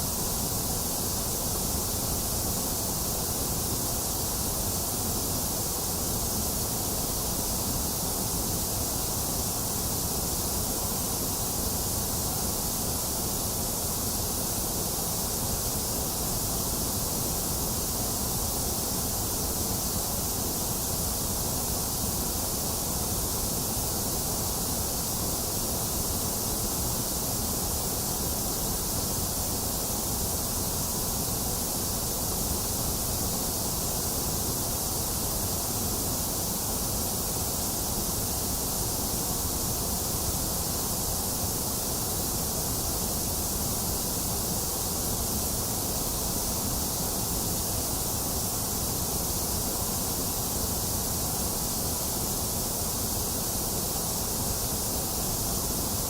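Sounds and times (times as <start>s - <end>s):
rain hiss: 0.0s - 56.0s.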